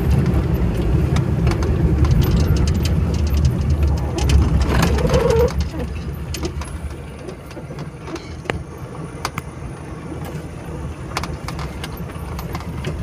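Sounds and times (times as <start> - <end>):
vehicle low rumble: 0.0 - 13.0.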